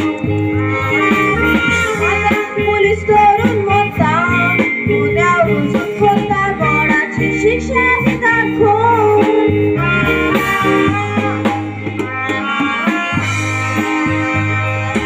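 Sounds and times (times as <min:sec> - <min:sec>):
person singing: 0:00.0 - 0:13.2
bass notes: 0:00.0 - 0:15.0
drums: 0:00.0 - 0:15.0
wavering melody line: 0:00.0 - 0:15.0.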